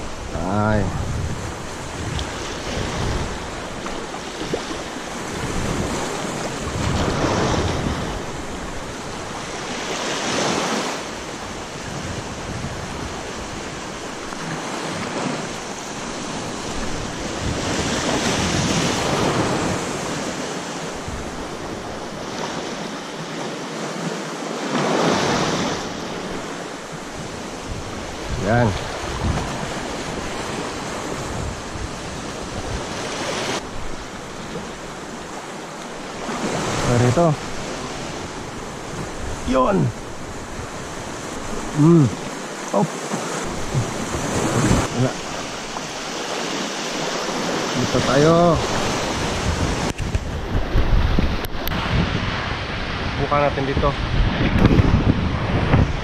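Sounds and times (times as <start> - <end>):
wind buffeting microphone: 0.0 - 24.1, 24.8 - 42.6, 43.2 - 56.0
small waves washing in: 0.0 - 56.0.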